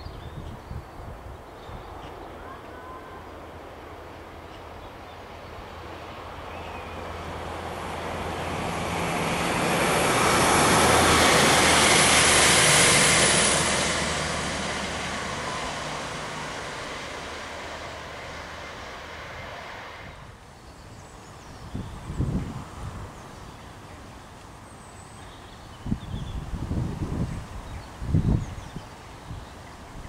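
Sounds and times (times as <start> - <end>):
train engine hum: 0.0 - 30.0.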